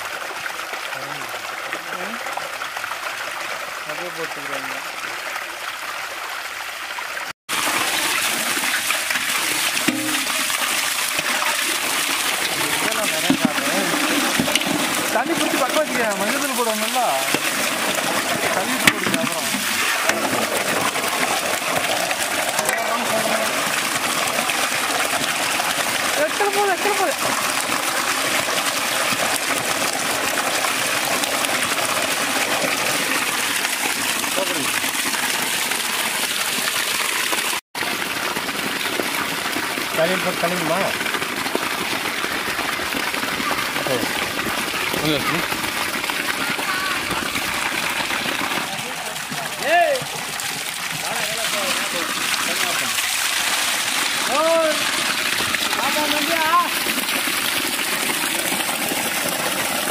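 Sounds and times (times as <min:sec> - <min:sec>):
water gushing from a pipe: 0:00.0 - 0:59.9
water splashing into a metal pot: 0:07.5 - 0:59.9.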